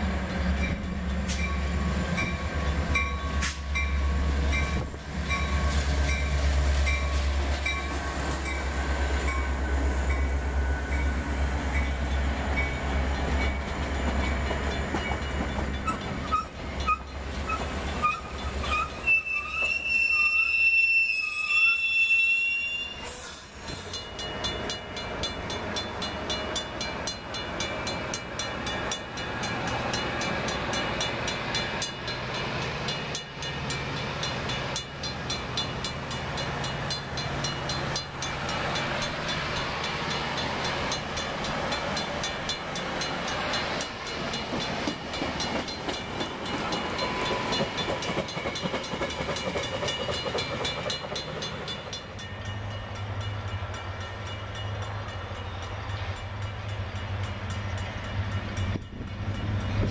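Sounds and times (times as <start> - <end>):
train rumble: 0.0 - 21.8, 22.9 - 59.9
train wheels clicking over rail joints: 0.1 - 20.2, 23.0 - 55.2.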